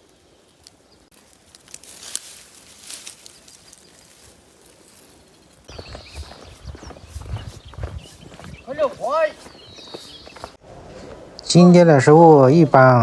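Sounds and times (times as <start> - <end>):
rustling through wet undergrowth: 0.0 - 11.1.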